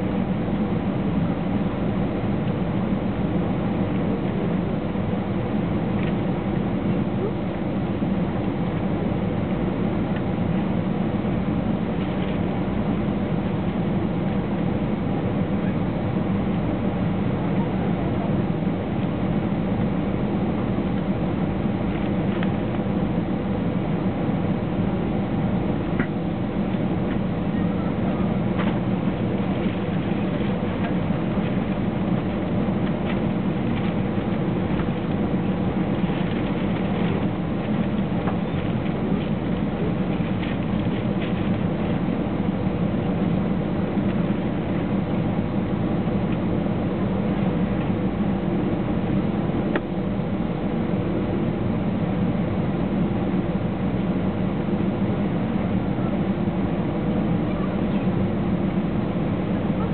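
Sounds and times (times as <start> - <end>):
jet engines humming: 0.0 - 59.9.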